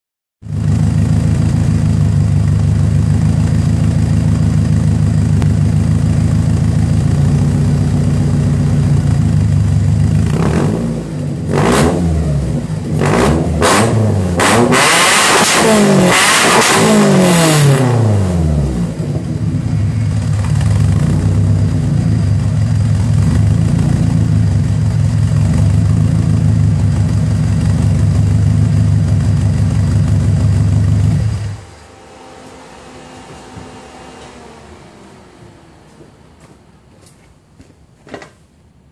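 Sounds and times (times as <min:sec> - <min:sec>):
car engine idling and revving: 0:00.4 - 0:37.5.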